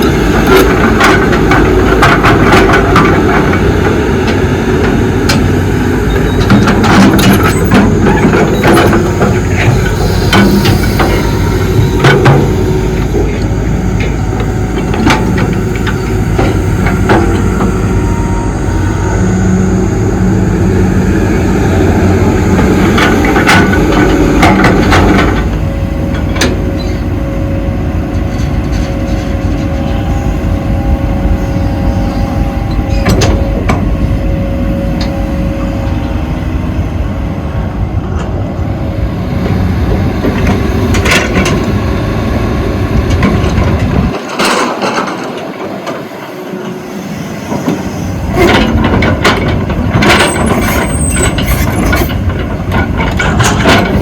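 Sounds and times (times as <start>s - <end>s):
diesel engine under load: 0.0s - 54.0s
hydraulic whine: 0.0s - 54.0s.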